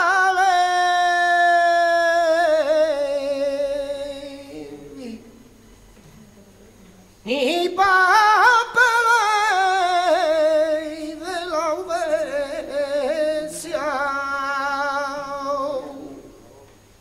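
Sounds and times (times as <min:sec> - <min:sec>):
man singing unaccompanied: 0:00.0 - 0:05.4, 0:07.2 - 0:16.4.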